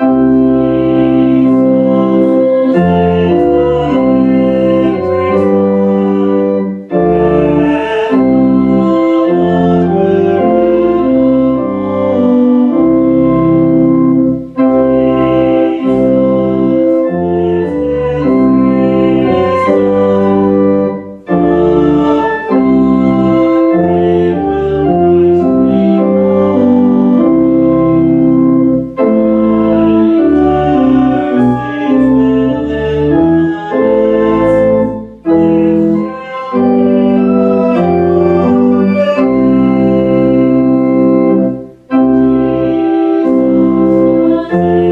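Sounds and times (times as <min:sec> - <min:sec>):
church organ playing a hymn: 0:00.0 - 0:44.9.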